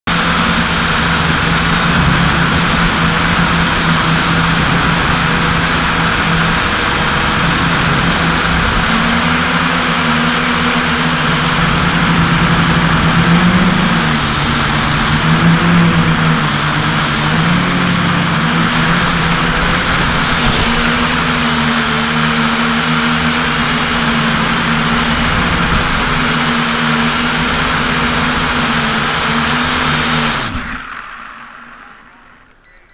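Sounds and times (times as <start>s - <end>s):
quadcopter propellers whirring: 0.0s - 32.9s.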